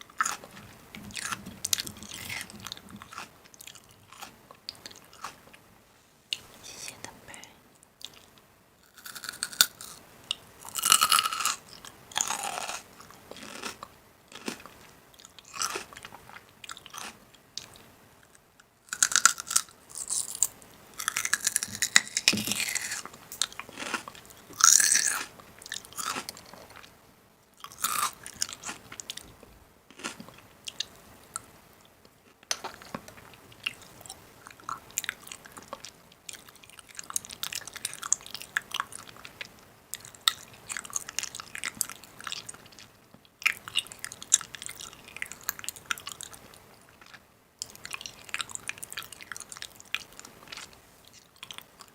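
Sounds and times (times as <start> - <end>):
person chewing crunchy food: 0.0 - 5.6, 8.0 - 27.0, 27.6 - 31.5, 32.2 - 51.9.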